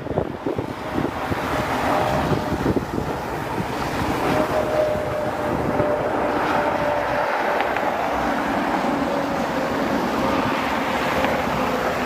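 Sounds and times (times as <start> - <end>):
jet engines roaring: 0.0 - 12.0
wind on microphone: 0.0 - 12.0.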